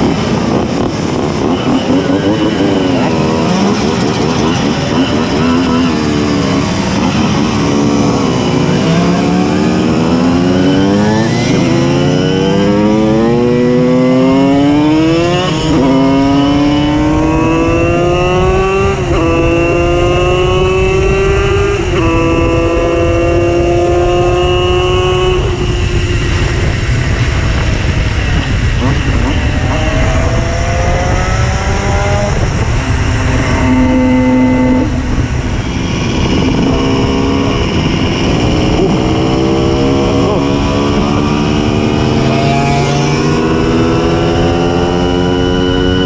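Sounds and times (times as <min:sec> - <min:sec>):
moped engine revving: 0:00.0 - 0:46.0.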